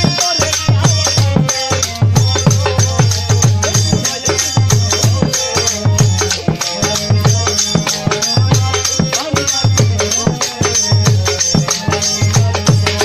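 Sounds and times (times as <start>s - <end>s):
hand drum beating: 0.0s - 13.0s
held melody: 0.0s - 13.0s
jingling hand cymbals: 0.0s - 13.0s.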